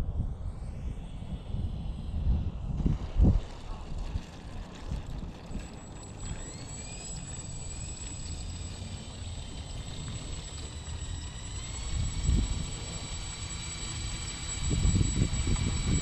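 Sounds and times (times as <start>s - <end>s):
electric motors and propellers whining: 0.0s - 16.0s.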